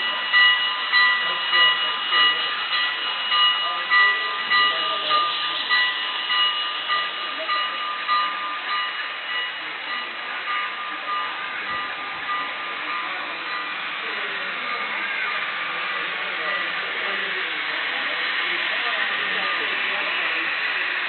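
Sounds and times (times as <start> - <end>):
rushing noise of running trains: 0.0 - 21.0.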